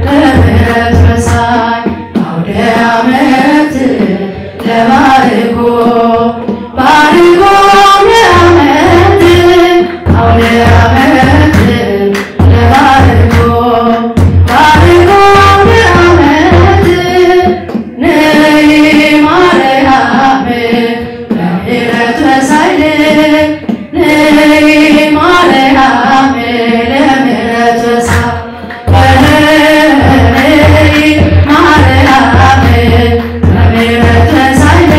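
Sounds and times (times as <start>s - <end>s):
woman singing hymn into microphone: 0.0s - 34.9s.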